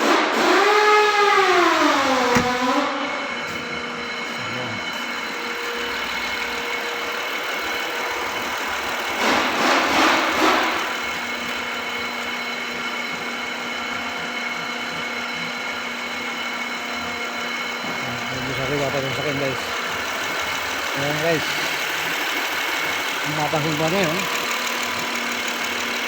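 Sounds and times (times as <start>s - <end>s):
car engine idling: 0.5s - 26.0s.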